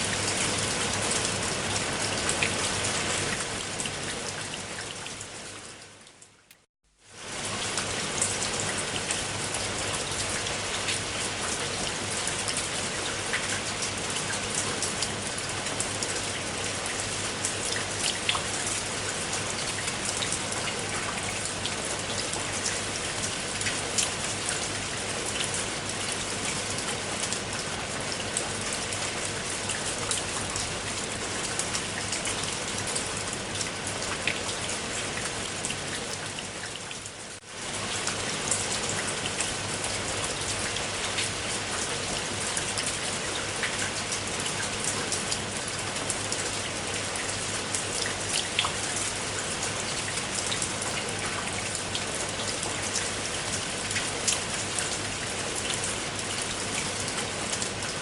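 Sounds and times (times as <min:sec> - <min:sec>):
rain with drops ticking: 0:00.0 - 0:58.0.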